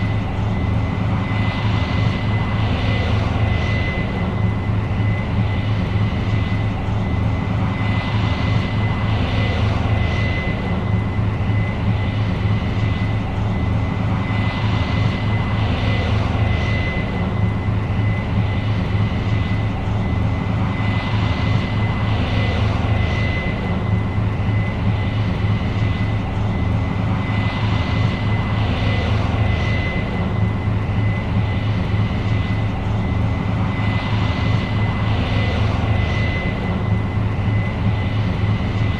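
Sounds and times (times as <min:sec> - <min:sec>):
combine engine drone: 0:00.0 - 0:38.9
high whine: 0:00.0 - 0:38.9.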